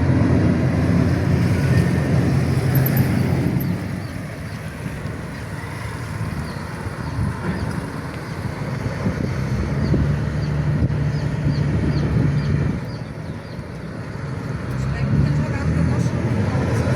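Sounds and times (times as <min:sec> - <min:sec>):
diesel engine droning: 0:00.0 - 0:16.9
water noise: 0:00.0 - 0:16.9
wind: 0:00.0 - 0:16.9.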